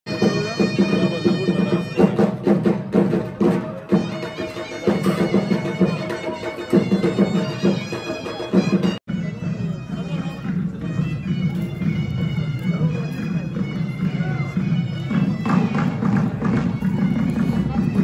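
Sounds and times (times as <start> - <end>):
drum beats: 0.1 - 18.0
reedy wind instrument: 0.1 - 18.0.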